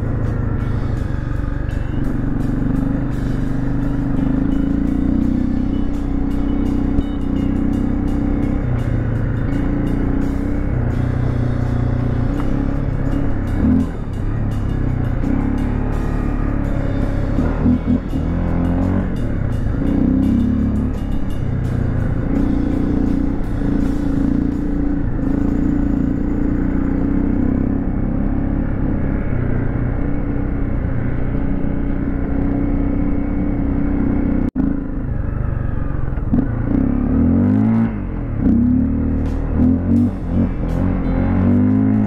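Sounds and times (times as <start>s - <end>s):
dirt motorcycle engine running: 0.0s - 42.0s.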